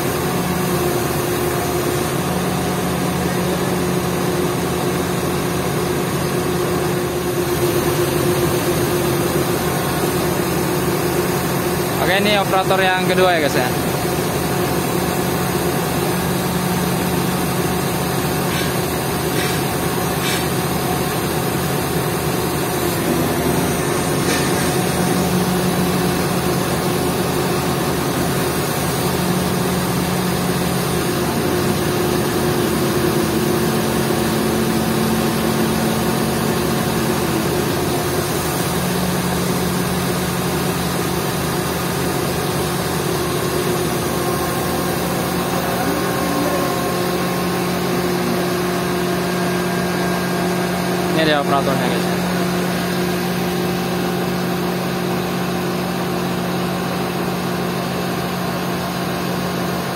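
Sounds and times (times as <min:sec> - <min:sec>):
diesel crane engine running: 0:00.0 - 0:59.9.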